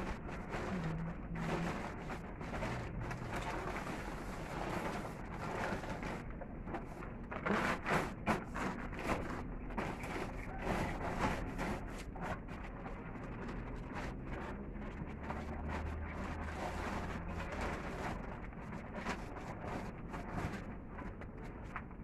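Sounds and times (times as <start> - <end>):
plastic tarp rustling and crinkling: 0.0 - 22.0.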